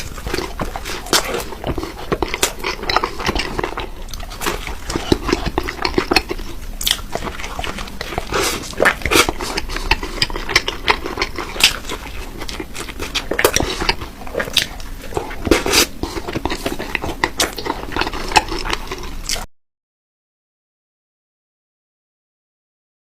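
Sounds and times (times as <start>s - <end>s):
person chewing crunchy food: 0.0s - 19.5s.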